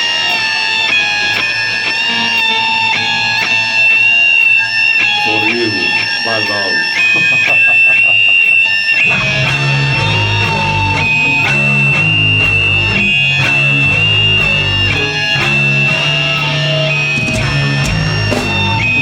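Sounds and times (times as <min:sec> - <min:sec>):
heavy electric guitar and bass: 0:00.0 - 0:19.0.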